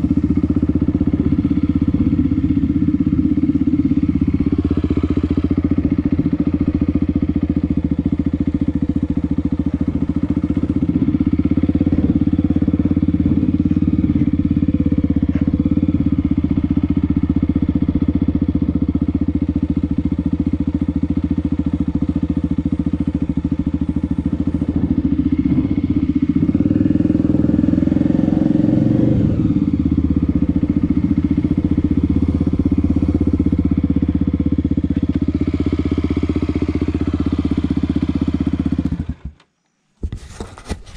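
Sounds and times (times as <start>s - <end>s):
motorcycle engine running: 0.0s - 39.4s.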